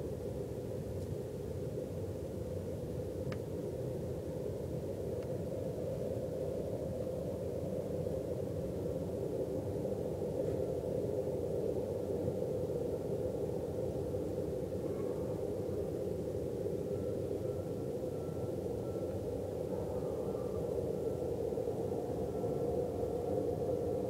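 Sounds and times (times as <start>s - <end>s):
loud steady drone from the sky: 0.0s - 24.0s.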